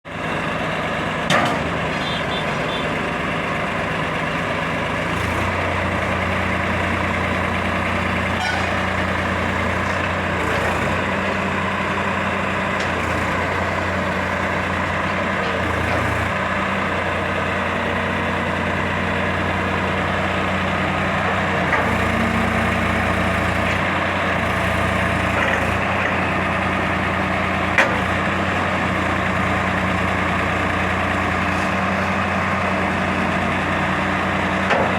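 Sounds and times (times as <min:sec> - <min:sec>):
tractor engine droning: 0:00.1 - 0:34.9.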